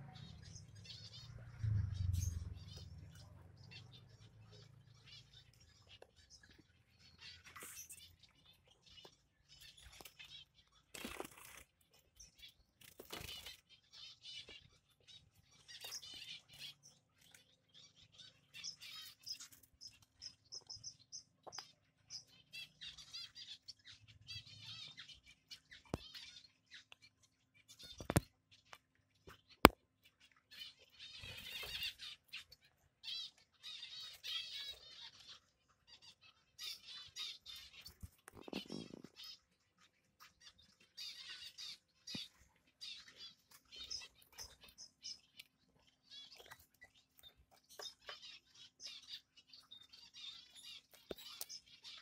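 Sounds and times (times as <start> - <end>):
baby finches peeping: 0.0 - 52.0.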